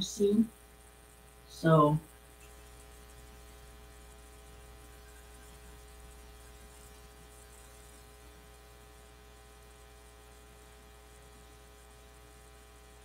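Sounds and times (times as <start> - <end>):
faint buzzy electrical hum: 0.0 - 13.0.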